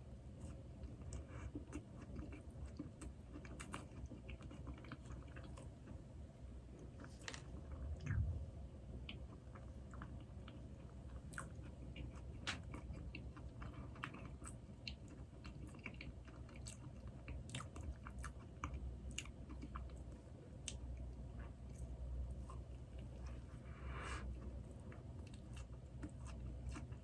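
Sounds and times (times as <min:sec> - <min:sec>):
chewing soft doughnut: 0:00.1 - 0:27.0.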